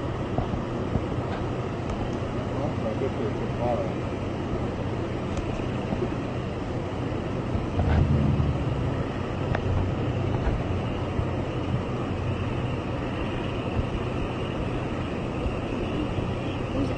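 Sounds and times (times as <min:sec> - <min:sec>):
low engine rumble: 0:00.0 - 0:16.9.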